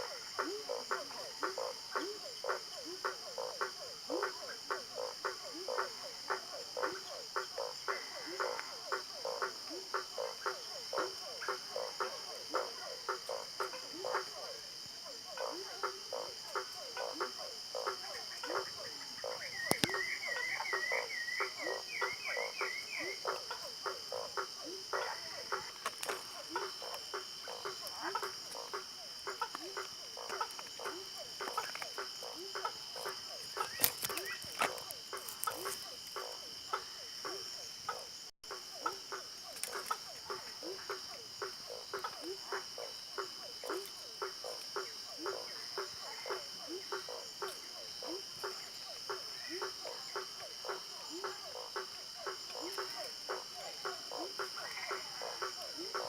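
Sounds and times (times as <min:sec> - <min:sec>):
frog chorus short calls: 0:00.0 - 0:56.0.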